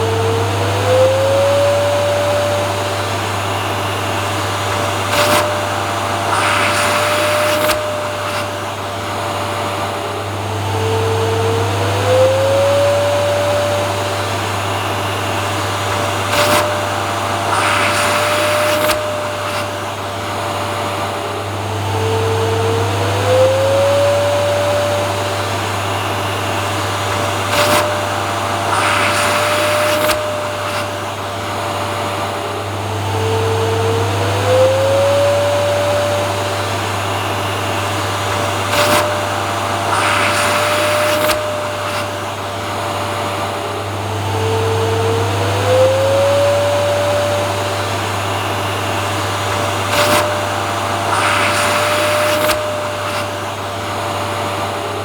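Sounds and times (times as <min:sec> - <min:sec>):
vacuum cleaner motor running: 0:00.0 - 0:55.0.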